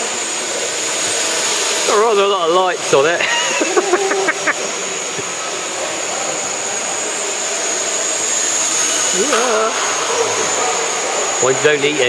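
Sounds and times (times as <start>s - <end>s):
multicopter propellers whirring: 0.0s - 12.0s.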